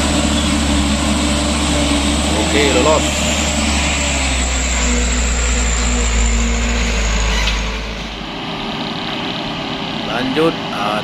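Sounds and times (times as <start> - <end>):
truck diesel engine rumbling: 0.0 - 11.0
tyres on dirt road: 0.0 - 11.0.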